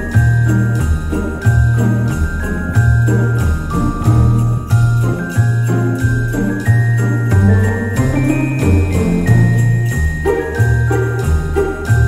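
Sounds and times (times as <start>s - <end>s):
christmas music with sleigh bells: 0.0s - 12.0s
christmas-style background music: 0.0s - 12.0s.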